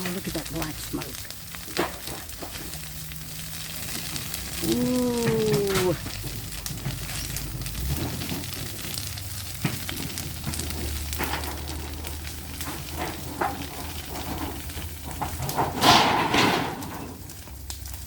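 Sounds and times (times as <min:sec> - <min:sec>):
fire crackling and popping: 0:00.0 - 0:18.0
fire hissing: 0:00.0 - 0:18.0.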